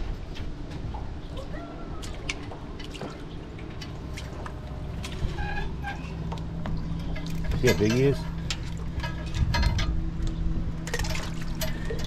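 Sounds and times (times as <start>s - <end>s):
water sloshing and dripping: 0.8s - 12.0s.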